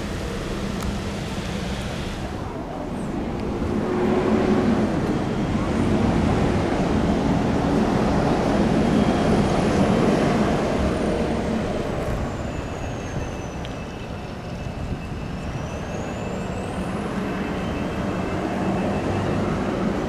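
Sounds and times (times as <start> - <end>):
road vehicle running: 0.0 - 20.0.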